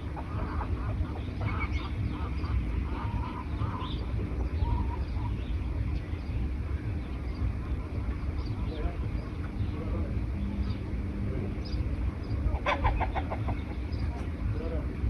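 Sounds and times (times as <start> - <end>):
birds calling: 0.0 - 15.0
steady low rumble: 0.0 - 15.0.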